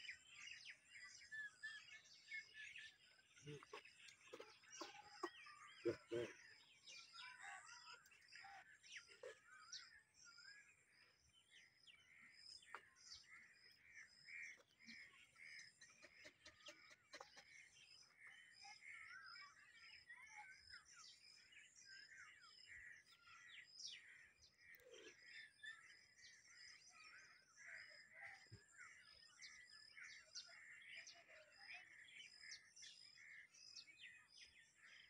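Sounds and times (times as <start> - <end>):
birds chirping and calling: 0.0 - 35.0.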